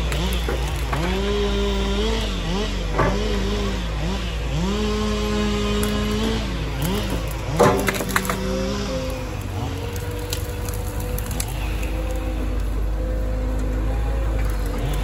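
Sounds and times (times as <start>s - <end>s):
excavator diesel engine and hydraulics: 0.0s - 15.0s.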